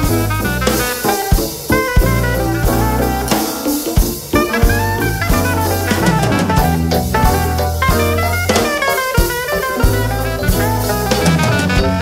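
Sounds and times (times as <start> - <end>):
drum kit beat: 0.0 - 12.0
keyboard: 0.0 - 12.0
saxophone: 0.0 - 12.0
walking electric bass: 0.0 - 12.0.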